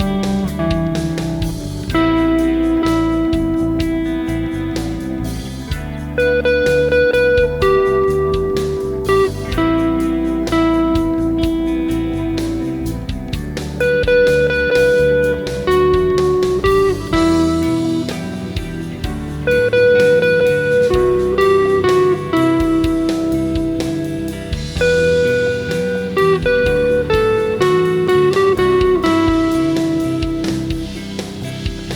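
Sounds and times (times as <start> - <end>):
backing track with drums and bass: 0.0 - 31.9
electric guitar lead: 0.0 - 31.9.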